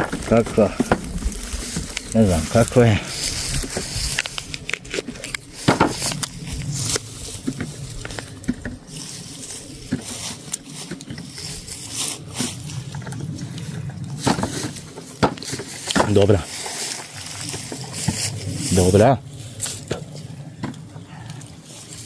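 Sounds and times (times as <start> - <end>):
apple crunching: 0.0 - 22.0.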